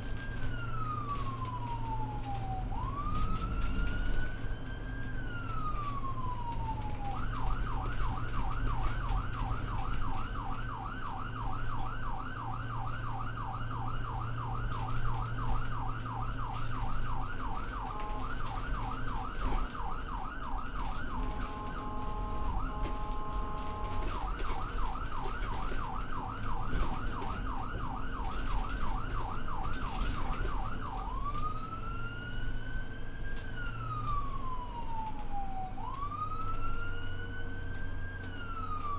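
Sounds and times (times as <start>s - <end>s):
electronic ambulance siren: 0.0s - 38.9s.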